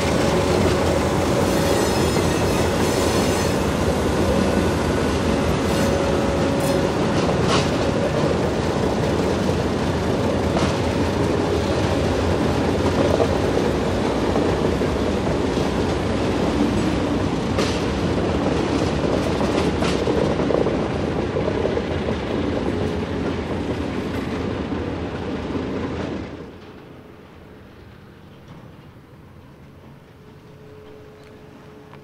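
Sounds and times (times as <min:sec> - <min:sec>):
diesel locomotive: 0:00.0 - 0:32.0
steel wheels rumbling: 0:00.0 - 0:32.0
wheels clicking over rail joints: 0:00.0 - 0:32.0.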